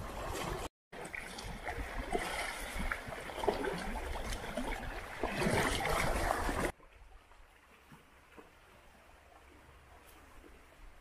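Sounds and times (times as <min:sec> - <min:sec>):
waves lapping against rocks: 0:00.0 - 0:11.0.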